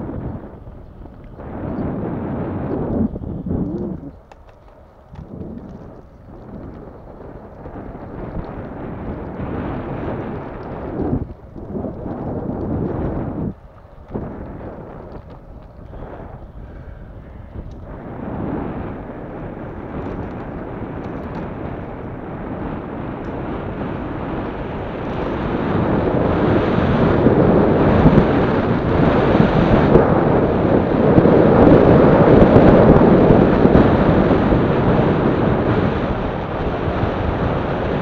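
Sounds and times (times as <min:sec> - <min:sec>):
bicycle tyre noise: 0:00.0 - 0:38.0
wind rushing over microphone: 0:00.0 - 0:38.0.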